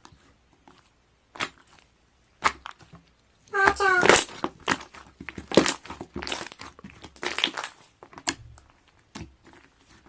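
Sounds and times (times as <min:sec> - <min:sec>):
crinkling and rustling handling: 0:00.0 - 0:10.0.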